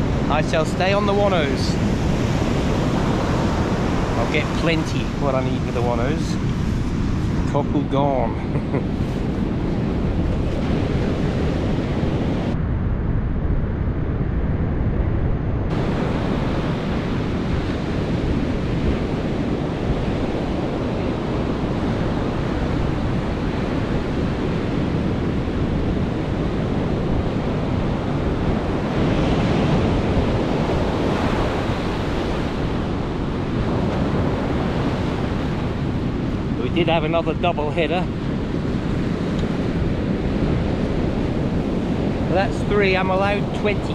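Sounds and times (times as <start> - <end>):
ocean waves breaking on beach: 0.0 - 12.6, 15.7 - 43.9
wind buffeting microphone: 0.0 - 43.9.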